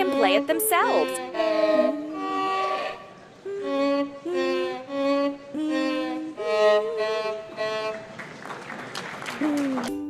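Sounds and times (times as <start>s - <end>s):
violin playing slow melody: 0.0s - 8.2s.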